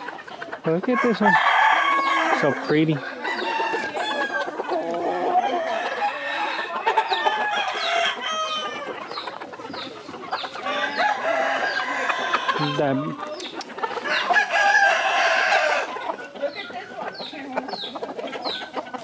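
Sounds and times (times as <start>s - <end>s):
chickens and roosters calling: 0.0s - 19.0s.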